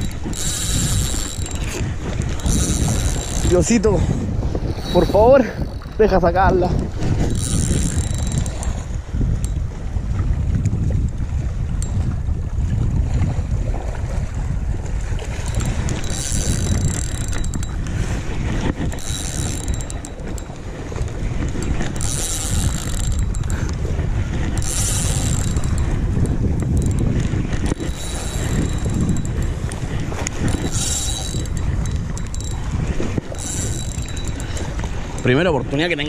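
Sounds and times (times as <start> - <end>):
fishing reel whirring: 0.0 - 10.3, 15.2 - 35.4
wind rumble on microphone: 0.0 - 36.0.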